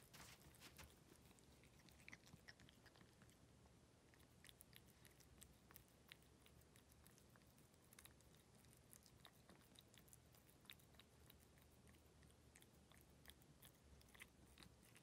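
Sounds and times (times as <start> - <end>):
cat chewing wet food: 0.0 - 15.0.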